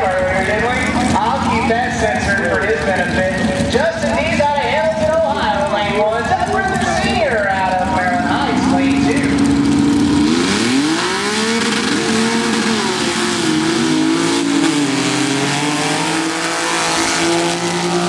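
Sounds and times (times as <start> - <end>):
trucks racing at full throttle: 0.0 - 18.0.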